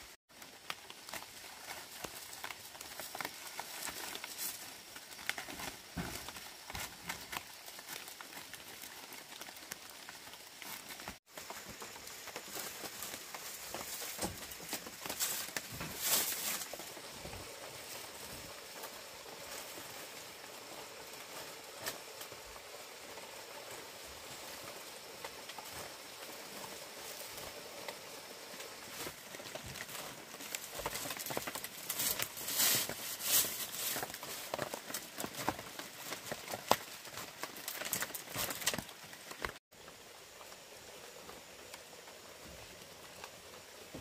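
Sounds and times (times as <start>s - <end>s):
dry leaves rustling and crackling: 0.3s - 40.7s.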